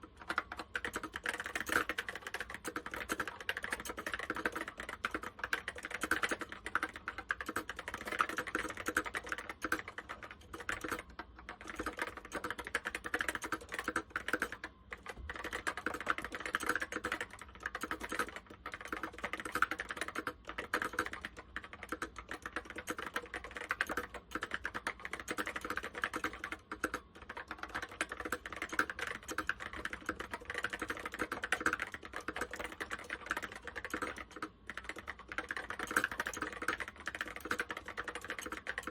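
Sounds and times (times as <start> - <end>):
keyboard typing clicks: 0.0 - 38.9.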